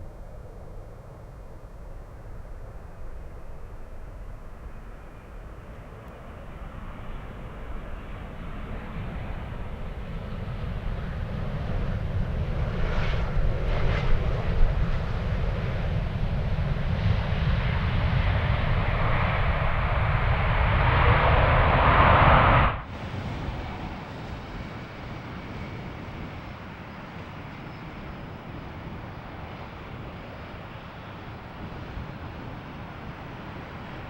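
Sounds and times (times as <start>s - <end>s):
jet airliner engine: 0.0s - 34.0s.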